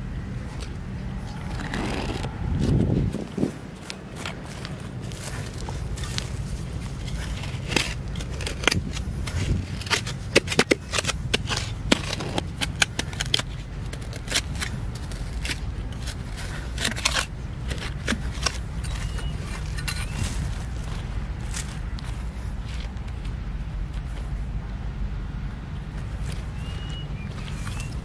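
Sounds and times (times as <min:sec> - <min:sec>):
steady low rumble: 0:00.0 - 0:28.0
hand tool scraping dry soil: 0:01.2 - 0:23.4, 0:26.0 - 0:28.0.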